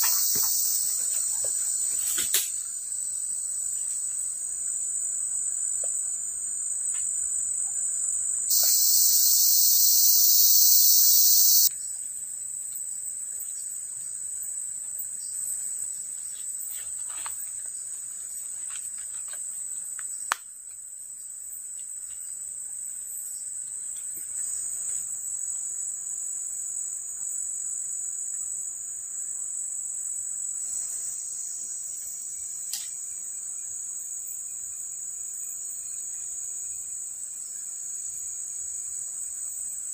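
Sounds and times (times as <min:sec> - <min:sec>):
forest insects droning: 0:00.0 - 0:39.9.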